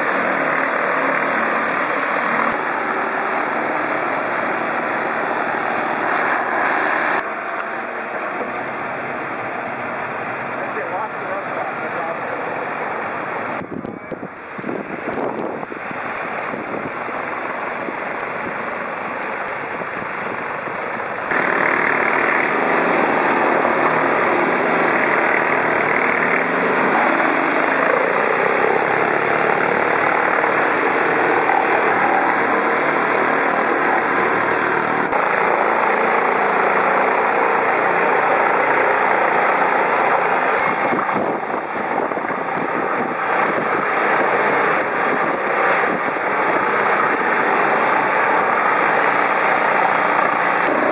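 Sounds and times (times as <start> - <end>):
high-pressure water jets hissing: 0.0 - 13.6, 14.4 - 50.9
engine running: 0.0 - 50.9.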